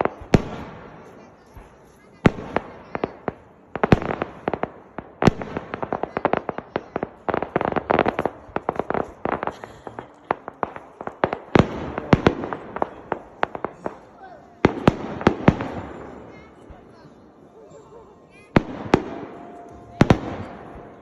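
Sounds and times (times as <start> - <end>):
fireworks bangs: 0.0 - 16.9, 18.5 - 21.0
fireworks popping and crackling: 0.0 - 17.0, 18.4 - 21.0.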